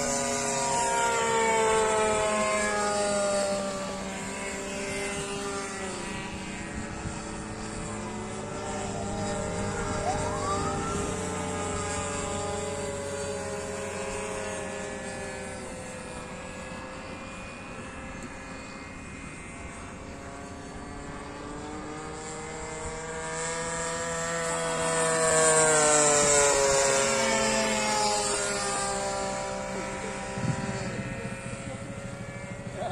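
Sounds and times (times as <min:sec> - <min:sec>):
model plane propeller drone: 0:00.0 - 0:32.9.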